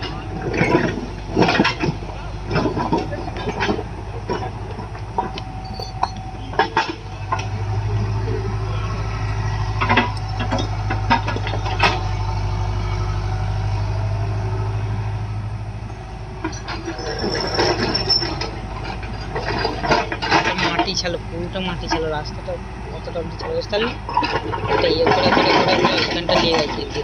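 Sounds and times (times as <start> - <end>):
clanks and knocks: 0.0 - 8.2, 9.0 - 12.2, 15.9 - 27.0
diesel engine running: 0.0 - 27.0.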